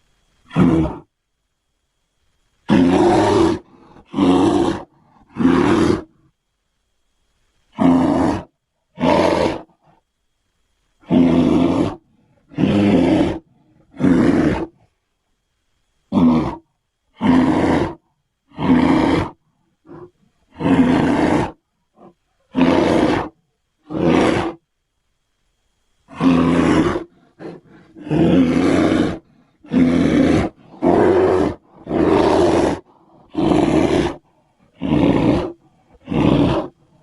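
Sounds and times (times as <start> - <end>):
bear roars: 0.5 - 1.1, 2.7 - 6.2, 7.7 - 10.0, 11.0 - 14.9, 16.1 - 24.6, 26.1 - 37.0.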